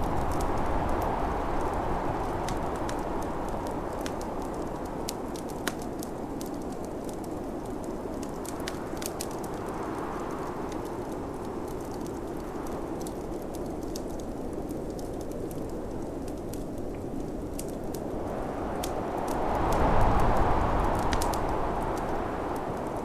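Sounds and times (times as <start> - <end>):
gusting snowstorm wind: 0.0 - 23.0
wood fire crackling: 0.0 - 23.0.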